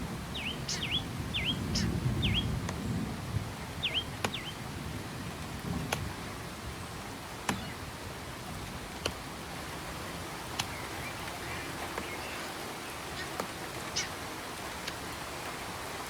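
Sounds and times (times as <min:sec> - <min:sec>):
raindrops ticking close by: 0:00.0 - 0:16.0
steady rain hiss: 0:00.0 - 0:16.0.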